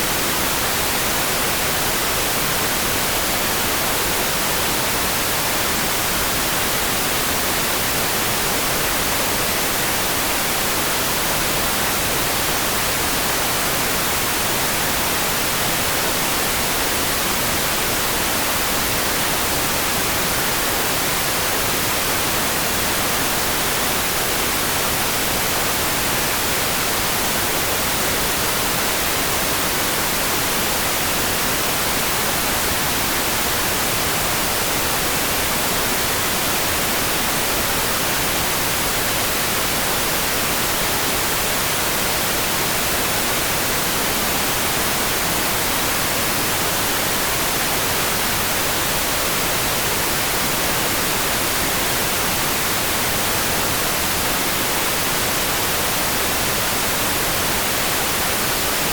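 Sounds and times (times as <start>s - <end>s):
rain-like white noise hiss: 0.0s - 58.9s.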